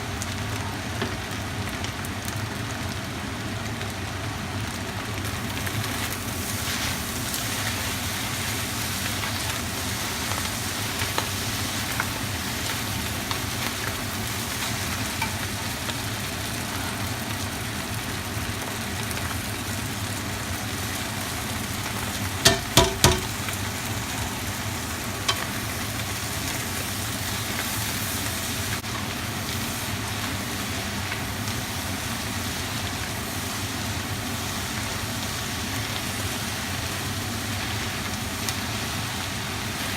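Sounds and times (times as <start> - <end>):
noodles sizzling in a pan: 0.0 - 39.9.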